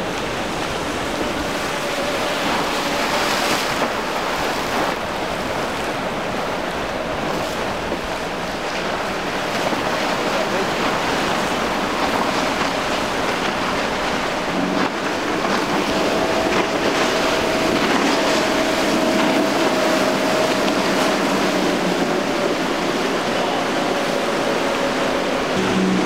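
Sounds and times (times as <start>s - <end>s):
breaking waves and spray: 0.0s - 26.0s
outboard motor whine: 0.0s - 26.0s
wind on microphone: 0.0s - 26.0s.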